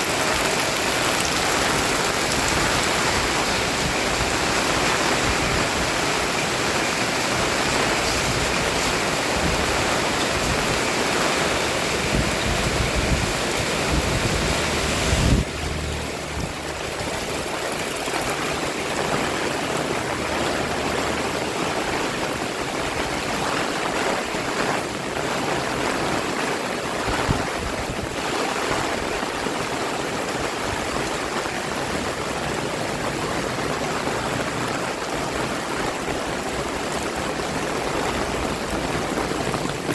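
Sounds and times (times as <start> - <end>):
heavy pouring rain: 0.0 - 39.9.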